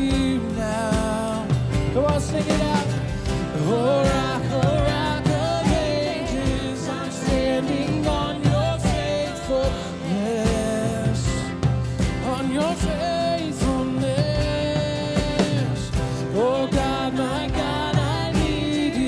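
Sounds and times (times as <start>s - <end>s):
drum beat: 0.0s - 19.0s
live worship band playing: 0.0s - 19.0s
sung melody: 0.0s - 19.0s.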